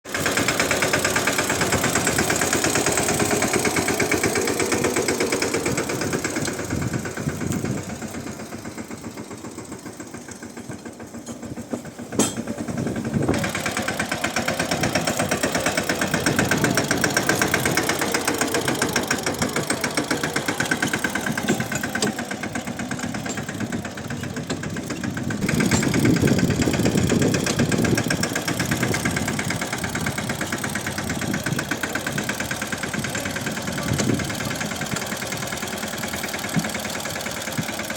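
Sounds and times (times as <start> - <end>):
tractor diesel engine chugging: 0.0 - 37.9.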